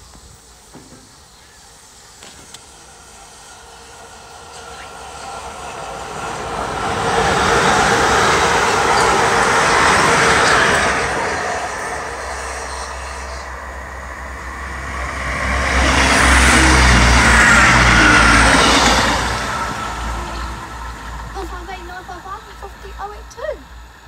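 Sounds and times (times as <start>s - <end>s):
diesel train engine rumble: 0.0s - 24.0s
train wheels rushing on rail: 0.0s - 24.0s.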